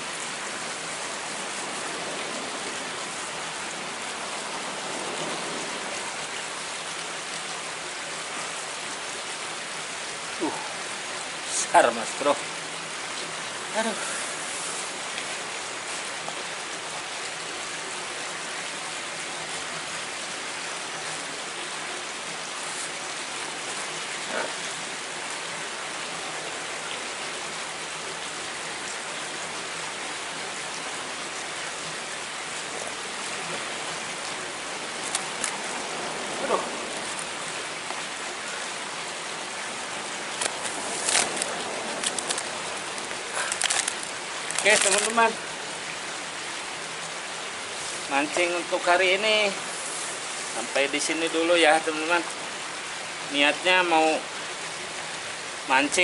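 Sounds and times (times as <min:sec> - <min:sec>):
water rushing hiss: 0:00.0 - 0:56.0.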